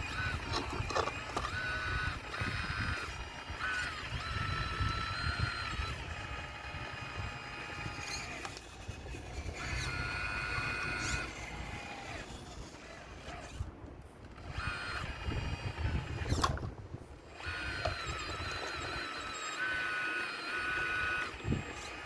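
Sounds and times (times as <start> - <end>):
hydraulic pump whining: 0.0 - 22.0.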